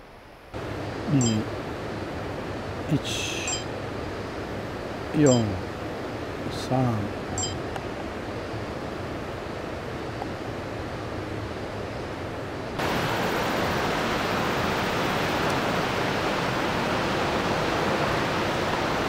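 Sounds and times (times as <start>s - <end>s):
flowing water rushing: 0.6s - 10.0s, 12.8s - 19.0s.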